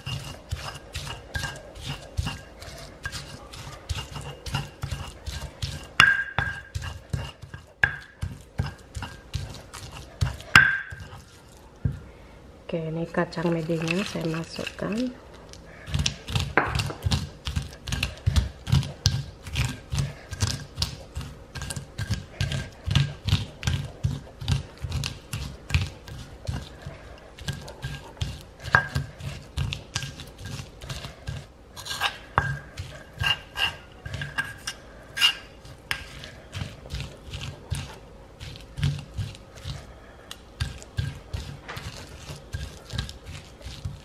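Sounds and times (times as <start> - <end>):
stone pestle grinding nuts: 0.0 - 12.0, 12.9 - 44.0.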